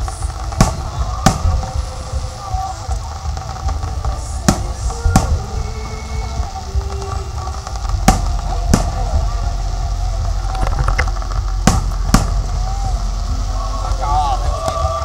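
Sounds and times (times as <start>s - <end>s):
fireworks bursting: 0.0s - 15.0s
low rumble: 0.0s - 15.0s
murmur of crowd voices: 0.0s - 15.0s.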